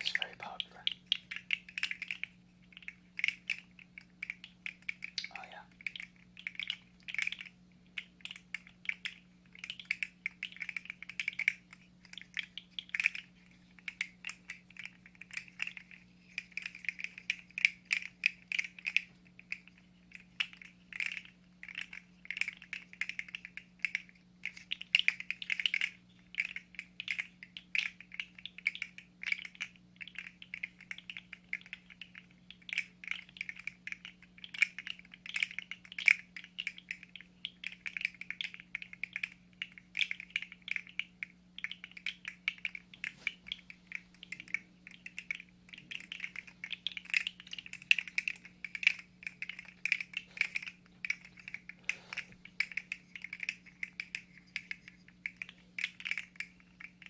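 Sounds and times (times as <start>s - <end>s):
faint low hum: 0.0s - 57.0s
plastic segments clicking and rattling: 0.0s - 57.0s.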